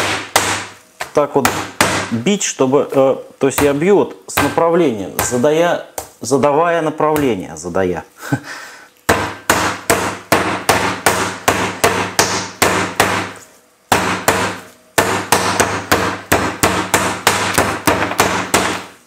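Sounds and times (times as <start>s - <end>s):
meat mallet pounding chicken: 0.0s - 2.2s, 2.9s - 6.2s, 9.1s - 19.0s.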